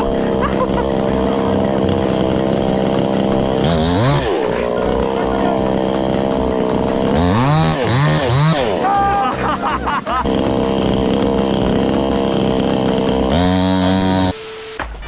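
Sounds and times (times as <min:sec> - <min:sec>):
chainsaw engine idling and revving: 0:00.0 - 0:14.4.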